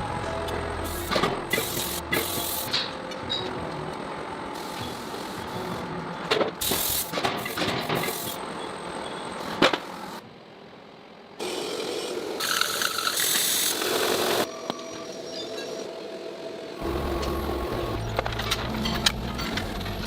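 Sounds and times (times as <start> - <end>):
heavy forge machinery running: 0.0 - 10.2, 11.4 - 20.0.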